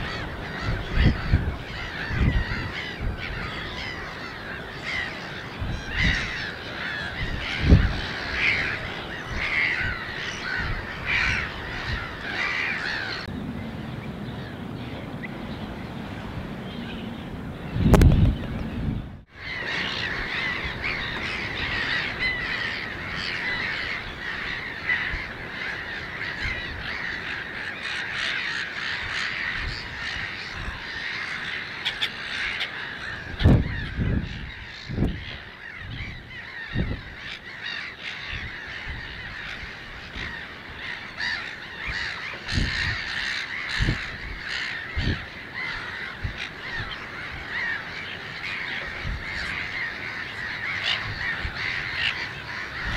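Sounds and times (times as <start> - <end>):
chorus of wetland birds: 0.0 - 52.9.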